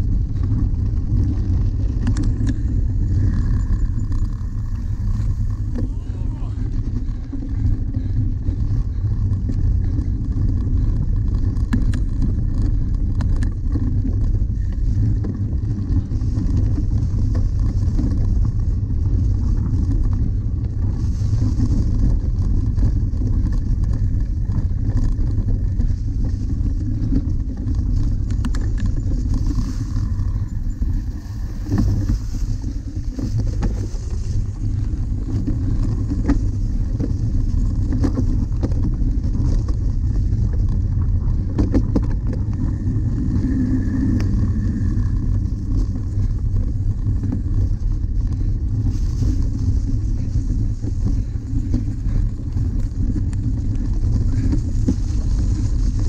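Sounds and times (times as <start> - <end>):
bike ticks and rattles: 0.0 - 56.0
wind rumble on microphone: 0.0 - 56.0.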